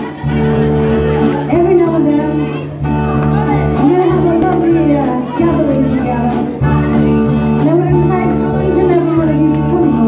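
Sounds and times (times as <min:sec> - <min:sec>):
drums: 0:00.0 - 0:10.0
electric guitars: 0:00.0 - 0:10.0
swing band playing: 0:00.0 - 0:10.0
female vocals: 0:01.2 - 0:10.0.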